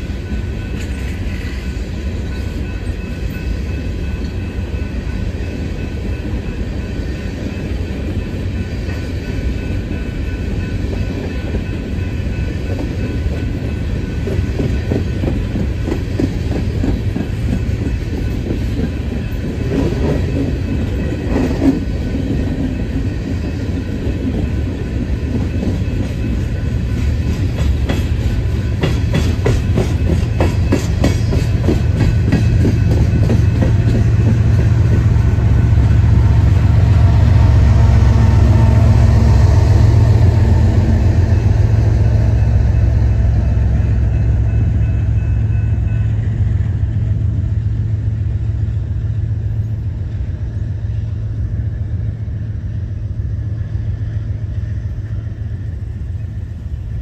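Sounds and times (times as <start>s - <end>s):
locomotive engine rumble: 0.0s - 57.0s.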